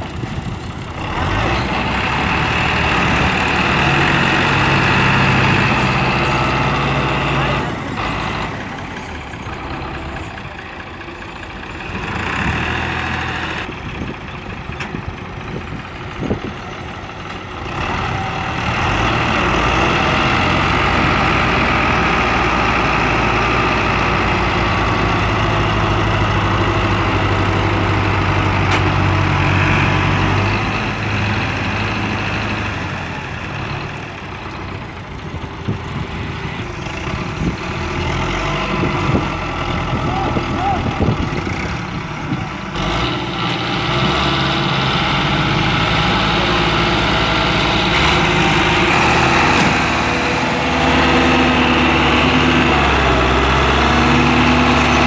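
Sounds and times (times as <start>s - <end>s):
diesel tractor engines under load: 0.0s - 55.0s.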